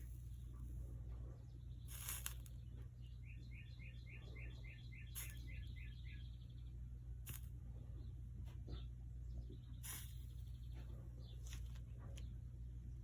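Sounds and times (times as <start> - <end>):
steady low hum: 0.0 - 13.0
bird chirping: 0.5 - 7.1, 7.8 - 13.0.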